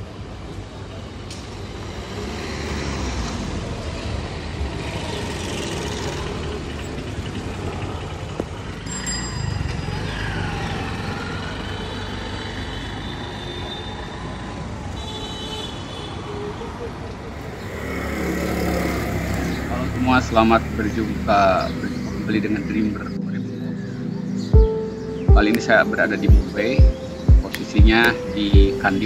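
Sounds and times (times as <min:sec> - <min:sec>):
vehicle engines rumbling: 0:00.0 - 0:29.0.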